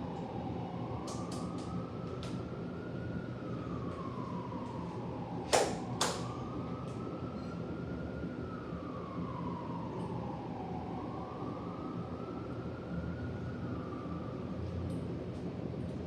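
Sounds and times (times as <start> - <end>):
siren wailing: 0.0 - 14.9.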